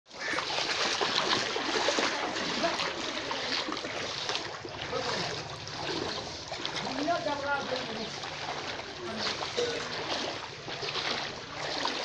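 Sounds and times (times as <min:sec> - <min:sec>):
wading through water: 0:00.1 - 0:12.0.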